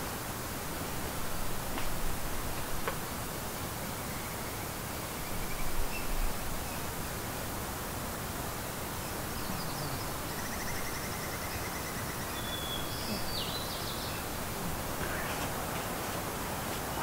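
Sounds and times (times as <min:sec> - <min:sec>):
outdoor mountain hiss: 0:00.0 - 0:17.0.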